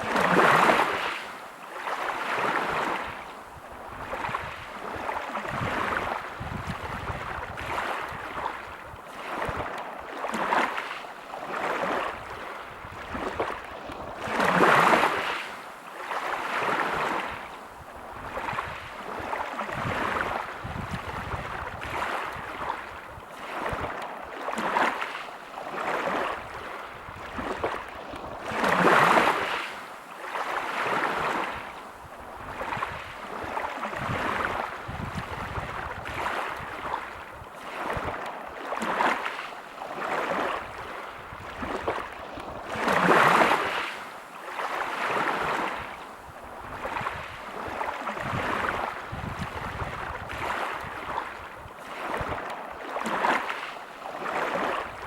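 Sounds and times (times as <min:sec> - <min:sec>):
waves breaking on pebble beach: 0:00.0 - 0:03.2, 0:04.0 - 0:17.4, 0:18.2 - 0:31.7, 0:32.5 - 0:55.0.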